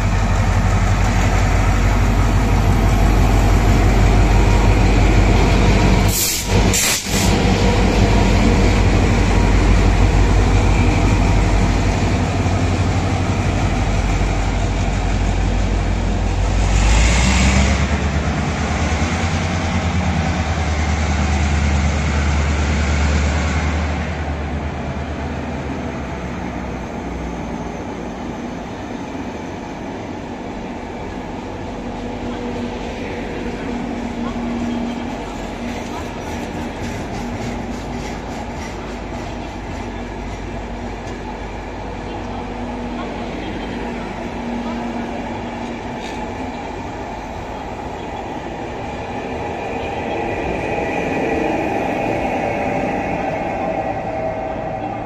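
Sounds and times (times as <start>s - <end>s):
electric locomotive whine: 0.0s - 55.0s
train wheels on rail: 0.0s - 55.0s.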